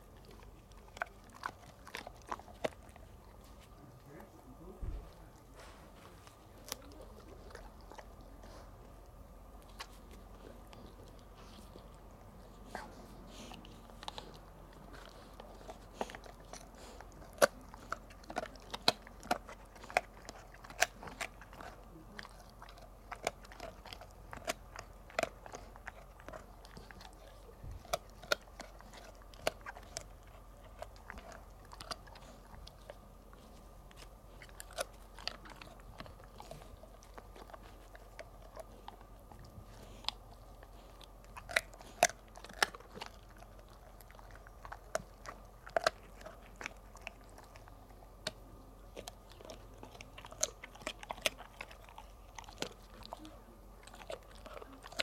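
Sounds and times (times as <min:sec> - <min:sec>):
dog chewing with crunches: 0:00.0 - 0:55.0.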